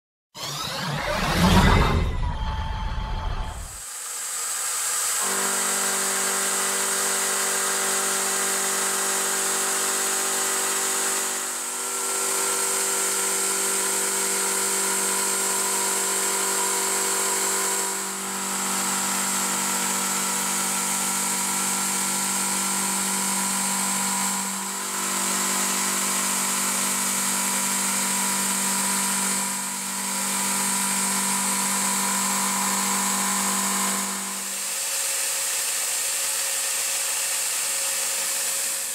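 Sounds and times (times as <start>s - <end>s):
milling machine cutting metal: 0.4s - 38.9s.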